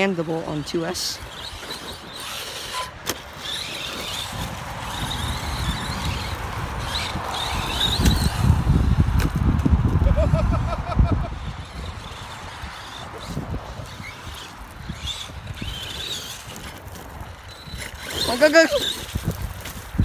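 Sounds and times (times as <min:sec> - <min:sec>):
electric motor whine: 0:00.0 - 0:20.0
tyres rumbling on loose ground: 0:00.0 - 0:20.0.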